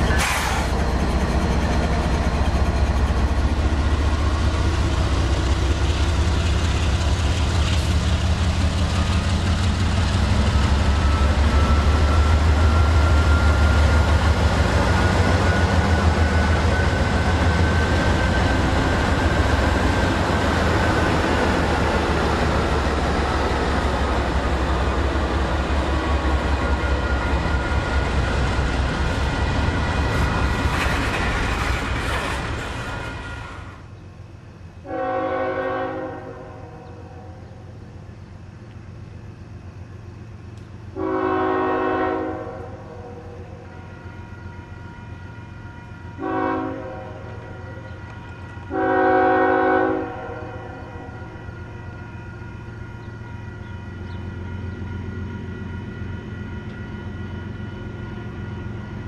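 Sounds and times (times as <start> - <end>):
diesel locomotive engine drone: 0.0 - 59.0
rail cars rolling on rails: 0.0 - 59.0.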